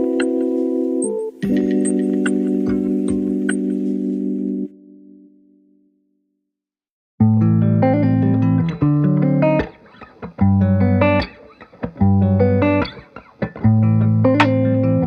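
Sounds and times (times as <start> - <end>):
plucked guitar: 0.0 - 5.4, 7.2 - 15.0.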